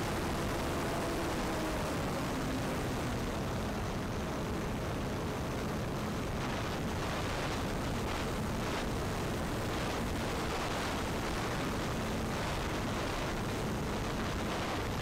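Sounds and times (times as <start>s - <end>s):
faint electric motor and propeller hum: 0.0s - 15.0s
wind rushing over microphone: 0.0s - 15.0s.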